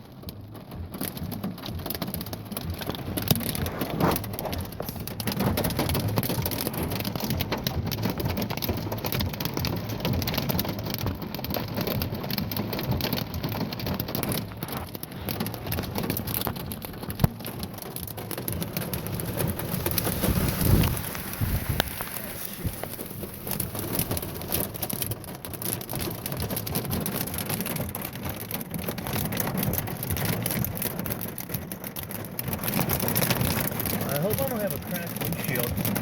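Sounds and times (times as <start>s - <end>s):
hail and rain on vehicle roof: 0.0s - 36.0s.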